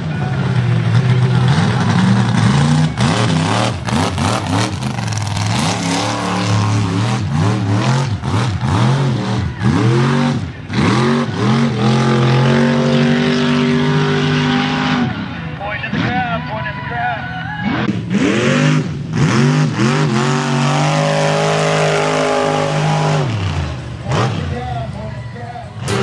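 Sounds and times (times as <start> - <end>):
truck engine revving: 0.0 - 16.3, 17.6 - 26.0.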